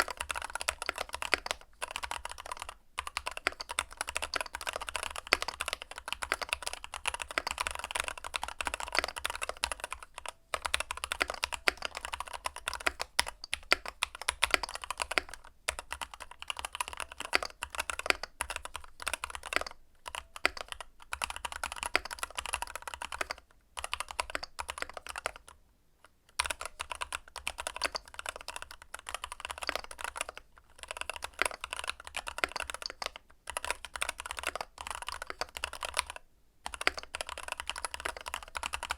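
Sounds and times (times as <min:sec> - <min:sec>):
mechanical keyboard typing: 0:00.0 - 0:25.6, 0:26.3 - 0:38.9.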